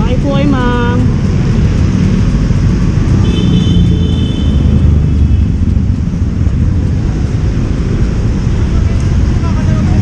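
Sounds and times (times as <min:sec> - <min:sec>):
motorcycle engines: 0:00.0 - 0:10.0
street traffic rumble: 0:00.0 - 0:10.0.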